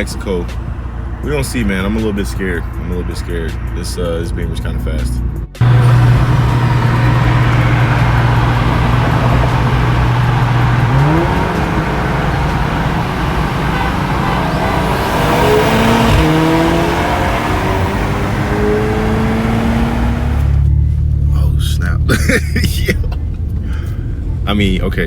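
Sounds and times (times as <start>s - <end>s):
car engine revving: 0.0s - 25.0s
road noise: 0.0s - 25.0s.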